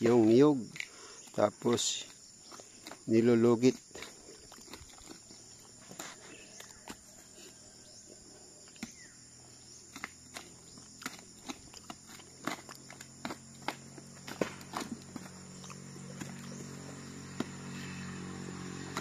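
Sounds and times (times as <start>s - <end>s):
faint insect hum: 0.0s - 19.0s.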